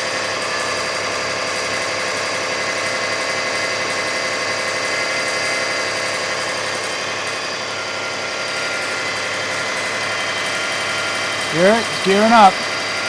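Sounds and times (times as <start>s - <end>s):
steady engine noise: 0.0s - 13.0s.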